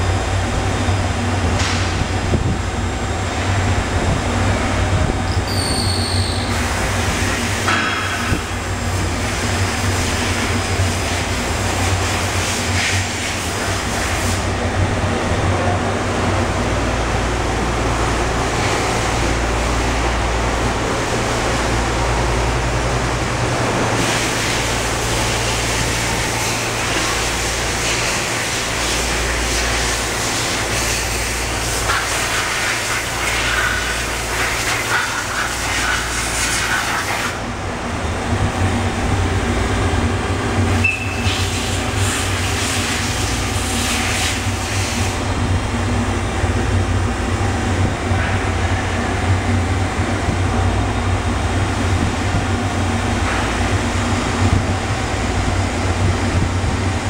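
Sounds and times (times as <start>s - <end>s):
machine hum with whirring: 0.0s - 57.0s.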